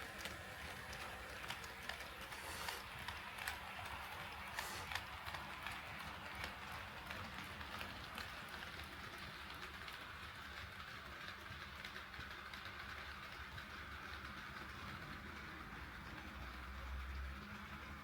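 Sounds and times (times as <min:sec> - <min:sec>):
model train whirring: 0:00.0 - 0:18.0
wheels clicking on rail joints: 0:00.0 - 0:18.0.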